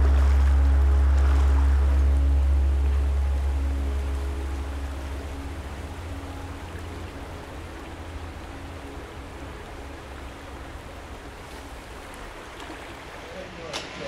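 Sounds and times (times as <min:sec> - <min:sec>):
low music notes: 0:00.0 - 0:13.3
rushing shallow river: 0:00.0 - 0:14.0.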